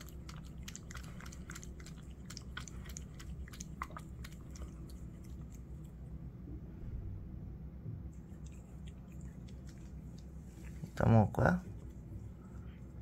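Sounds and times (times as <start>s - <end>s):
cat eating wet food: 0.0s - 6.2s, 8.1s - 13.0s.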